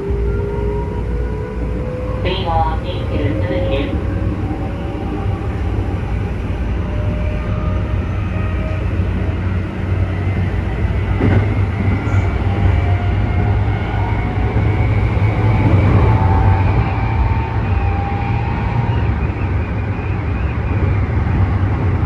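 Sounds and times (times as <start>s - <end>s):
rail noise: 0.0s - 22.0s.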